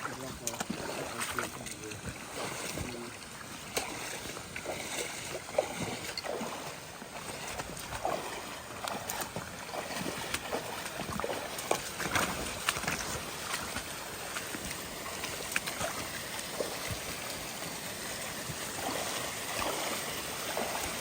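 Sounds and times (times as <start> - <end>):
footsteps squelching in mud: 0.0 - 17.4.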